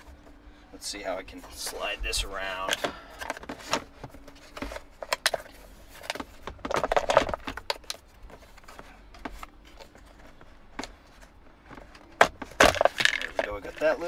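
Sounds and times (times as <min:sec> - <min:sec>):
rustling clatter: 0:02.7 - 0:14.0.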